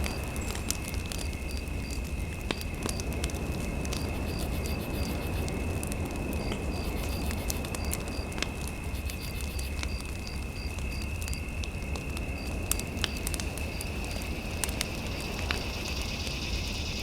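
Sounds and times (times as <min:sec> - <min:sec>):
fire crackling in fireplace: 0:00.0 - 0:16.4.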